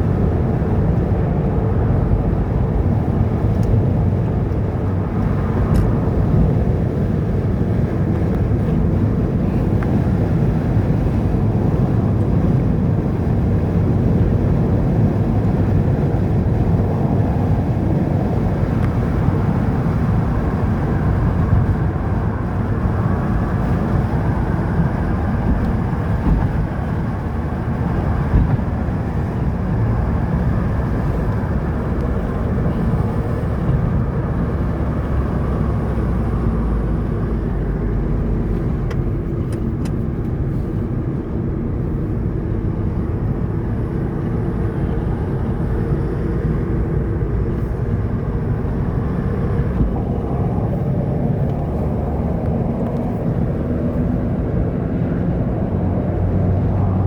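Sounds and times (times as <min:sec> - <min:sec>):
car driving on a road: 0:00.0 - 0:57.0.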